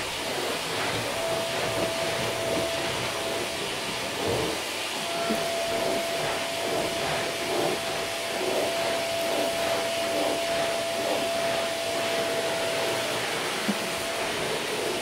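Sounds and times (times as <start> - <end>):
vacuum cleaner running over carpet: 0.0 - 15.0.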